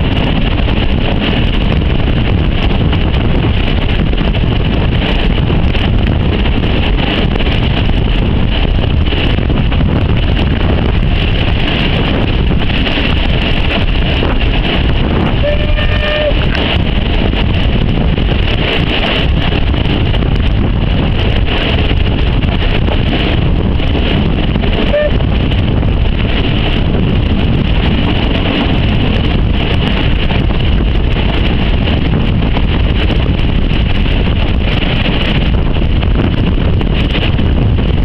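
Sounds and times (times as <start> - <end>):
train coaches rumbling on track: 0.0 - 38.0
wind buffeting microphone: 0.0 - 38.0.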